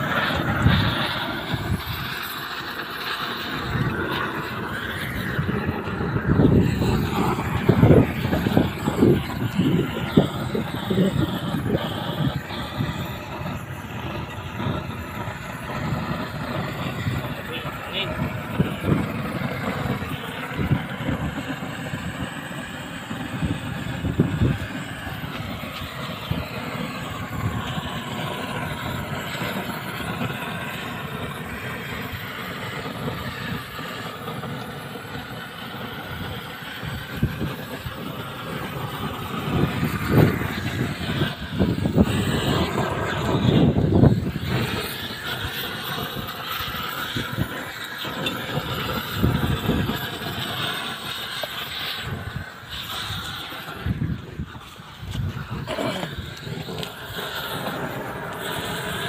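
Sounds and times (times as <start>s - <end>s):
gas torch burning: 0.0s - 59.0s
wind rumbling on microphone: 0.0s - 59.0s.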